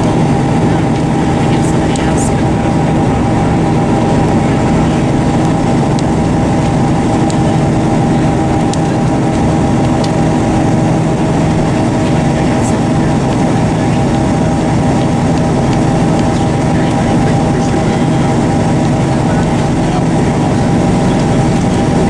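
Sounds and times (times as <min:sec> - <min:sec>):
railcar diesel engine hum: 0:00.0 - 0:22.0.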